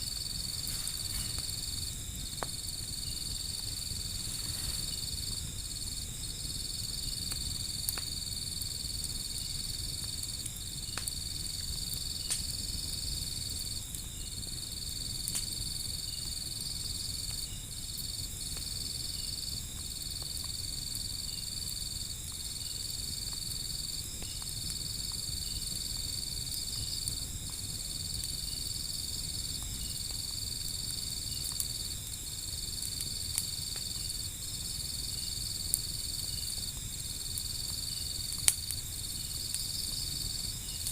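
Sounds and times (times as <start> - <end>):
high-pitched insect trill: 0.0 - 40.9
wood fire popping: 0.0 - 40.9.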